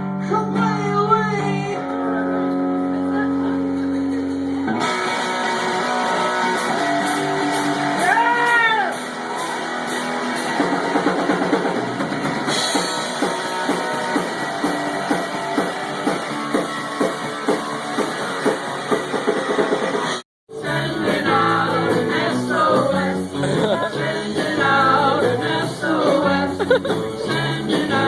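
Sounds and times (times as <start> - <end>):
live rock band instrumental: 0.0 - 28.0.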